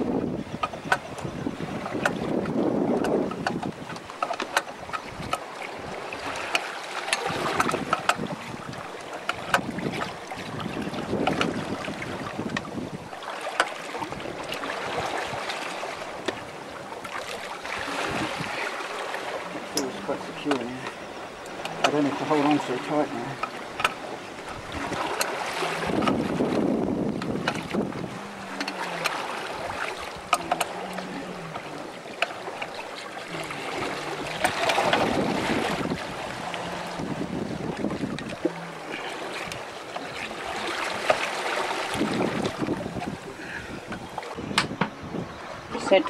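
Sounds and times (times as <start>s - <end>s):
wind buffeting microphone: 0.0s - 13.2s, 13.9s - 46.0s
sea water rushing past boat: 0.0s - 46.0s.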